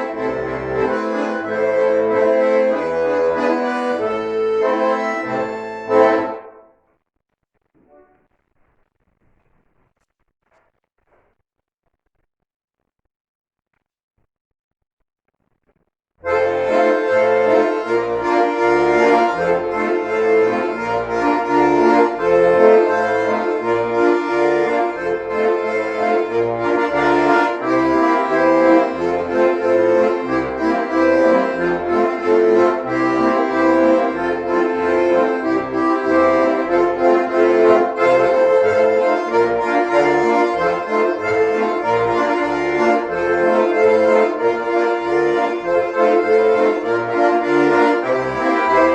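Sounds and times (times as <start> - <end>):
button accordion duet: 0.0 - 6.6, 16.2 - 48.9.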